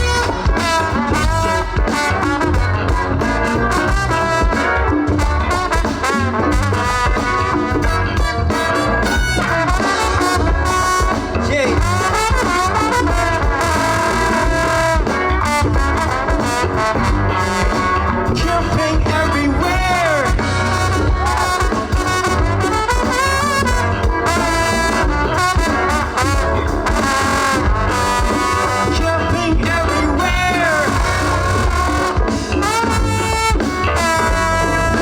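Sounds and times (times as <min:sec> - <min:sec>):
live band playing: 0:00.0 - 0:35.0
trumpet lead: 0:00.0 - 0:35.0.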